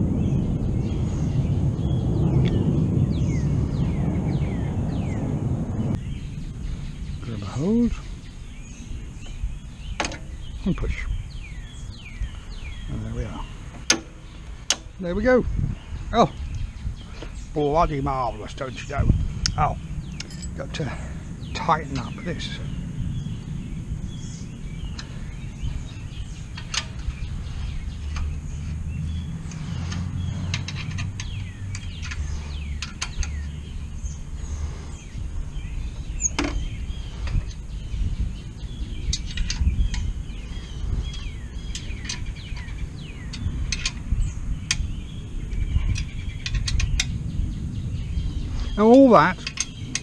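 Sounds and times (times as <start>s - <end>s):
low rumble: 0.0s - 48.8s
birds chirping: 0.0s - 50.0s.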